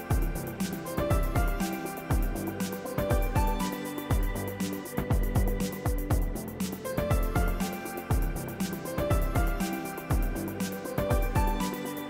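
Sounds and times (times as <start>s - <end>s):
percussion: 0.0s - 12.0s.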